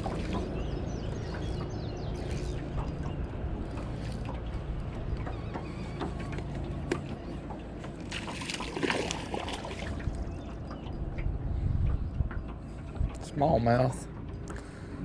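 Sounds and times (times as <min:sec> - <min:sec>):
low steady hum: 0:00.0 - 0:15.0
water sloshing around a boat: 0:00.0 - 0:15.0.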